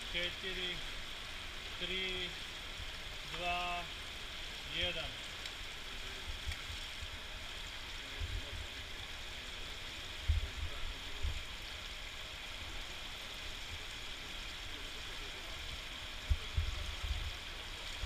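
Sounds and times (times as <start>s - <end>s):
water running in pool gutter: 0.0s - 18.0s.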